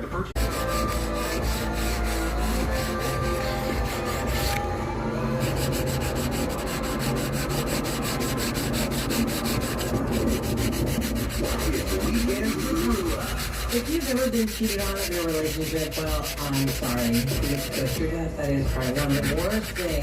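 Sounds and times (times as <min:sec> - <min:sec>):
hand sanding rough rubbing: 0:00.4 - 0:04.7, 0:05.4 - 0:20.0.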